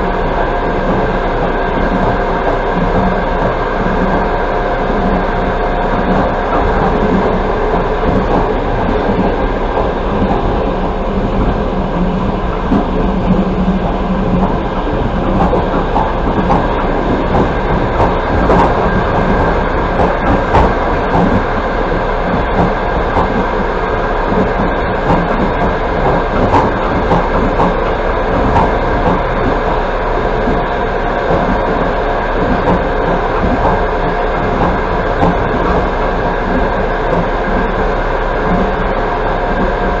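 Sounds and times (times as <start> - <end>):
train wheels rolling on track: 0.0 - 40.0.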